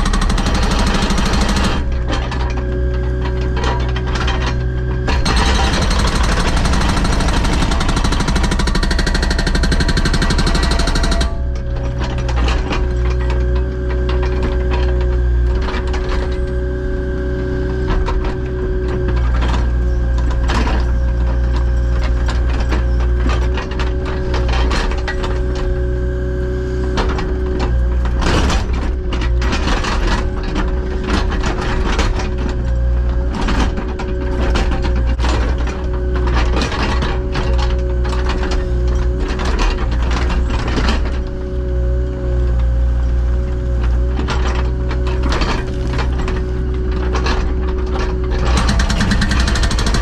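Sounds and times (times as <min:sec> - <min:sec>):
excavator diesel engine whining: 0:00.0 - 0:50.0.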